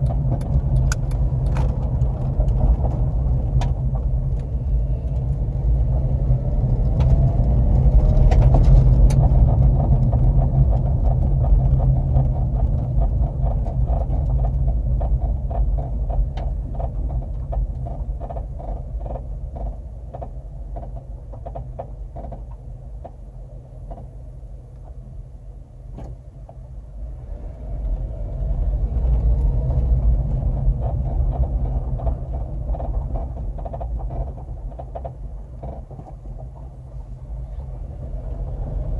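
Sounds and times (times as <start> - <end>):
car road rumble from inside: 0.0 - 38.9.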